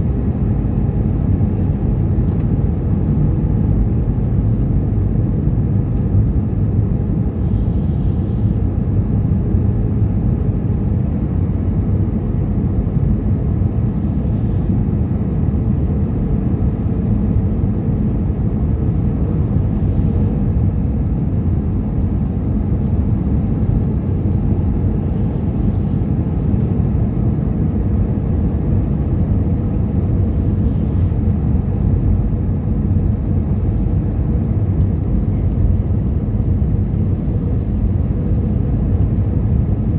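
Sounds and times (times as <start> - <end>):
jet engines and airflow roaring: 0.0 - 39.9.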